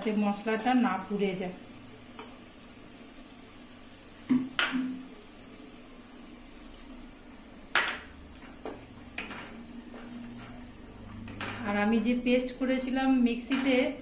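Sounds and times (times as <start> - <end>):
faint frying sizzle: 0.0 - 14.0.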